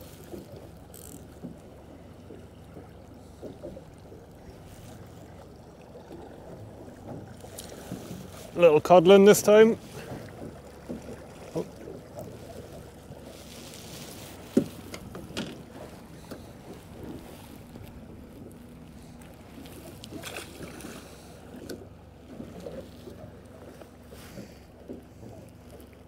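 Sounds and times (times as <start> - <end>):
knocks and clicks on boat: 0.0 - 26.0
water washing around boat: 0.0 - 26.0
wind: 0.0 - 26.0.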